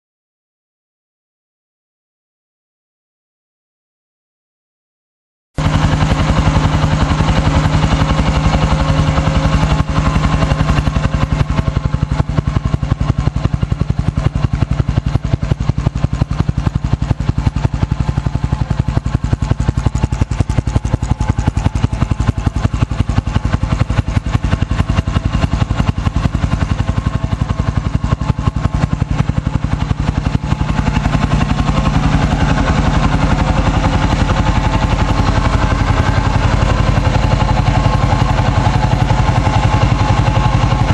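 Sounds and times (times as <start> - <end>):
motorcycle engine idling: 5.6 - 40.9.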